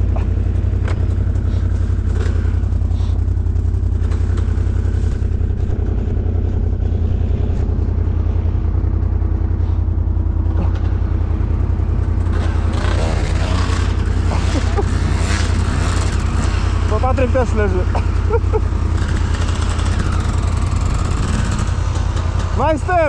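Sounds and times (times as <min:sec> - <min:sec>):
atv engine running at low revs: 0:00.0 - 0:23.0.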